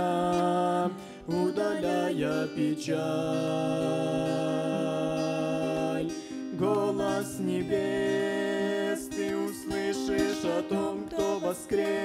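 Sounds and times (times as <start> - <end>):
acoustic guitar: 0.0 - 12.0
vocal group singing in harmony: 0.0 - 12.0.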